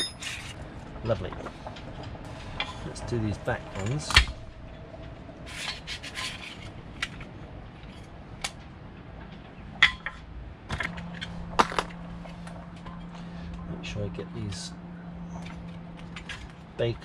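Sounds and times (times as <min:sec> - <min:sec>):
hard parts clicking and clattering: 0:00.0 - 0:14.6, 0:15.3 - 0:17.0
low steady hum: 0:00.0 - 0:17.0.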